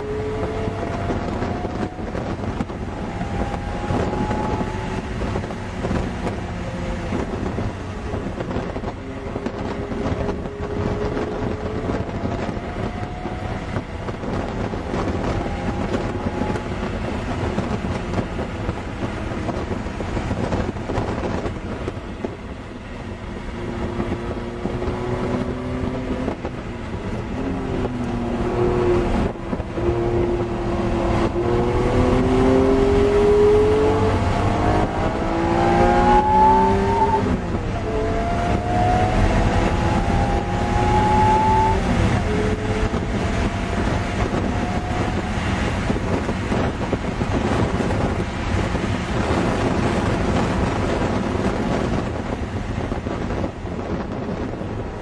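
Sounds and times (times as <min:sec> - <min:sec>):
car engine from inside cabin: 0:00.0 - 0:55.0
road and wind noise: 0:00.0 - 0:55.0.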